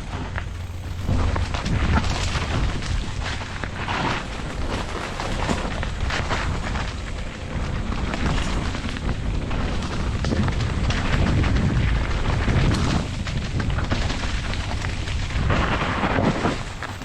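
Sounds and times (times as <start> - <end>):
bike clattering over bumps: 0.0 - 17.0
wind buffeting microphone: 0.0 - 17.0.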